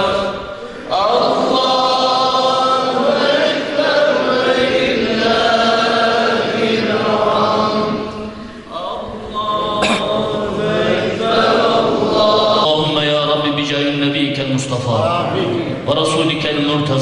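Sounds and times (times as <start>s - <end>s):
devotional chanting: 0.0s - 17.0s.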